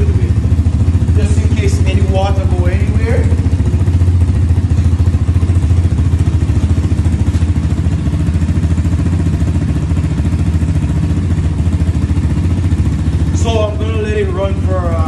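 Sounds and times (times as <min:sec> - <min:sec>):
dirt bike engine idling: 0:00.0 - 0:15.0.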